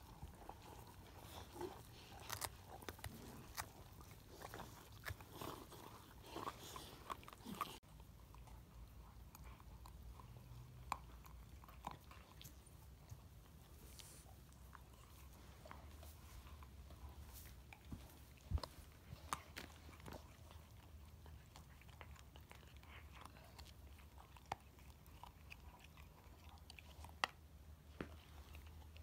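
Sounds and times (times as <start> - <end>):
puppies gnawing on bones: 0.0 - 29.0.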